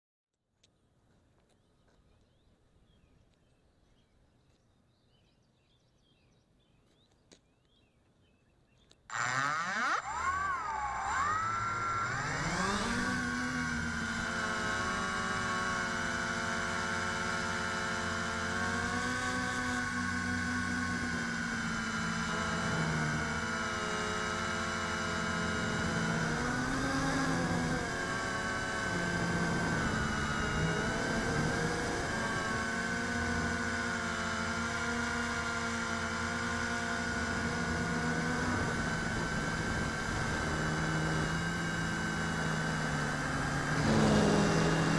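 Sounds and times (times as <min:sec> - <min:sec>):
quadcopter motors whining: 0:08.8 - 0:44.9.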